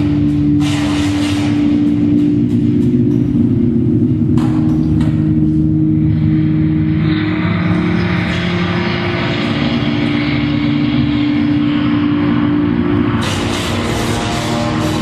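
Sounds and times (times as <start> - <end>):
droning experimental music: 0.0 - 15.0.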